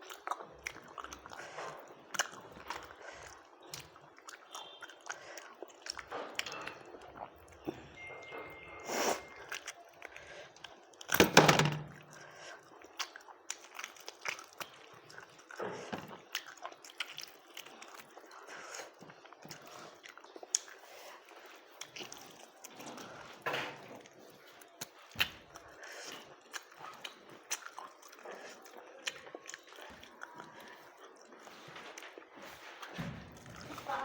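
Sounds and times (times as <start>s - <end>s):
chewing rice: 0.0s - 11.2s, 12.0s - 34.0s.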